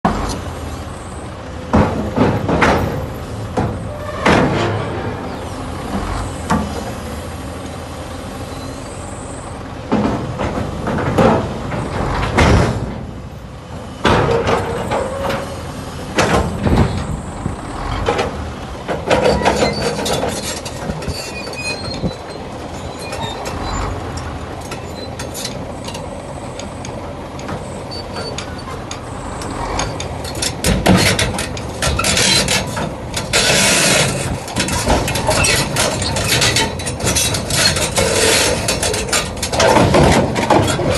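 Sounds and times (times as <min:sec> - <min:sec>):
excavator diesel engine running: 0:00.0 - 0:40.9
steel tracks clanking and squealing: 0:00.1 - 0:40.9.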